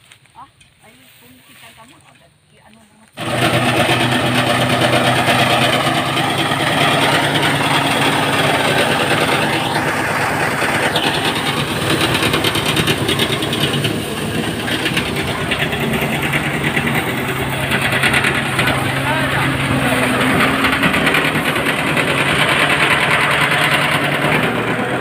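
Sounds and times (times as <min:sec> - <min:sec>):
rice thresher engine running: 0:00.8 - 0:25.0.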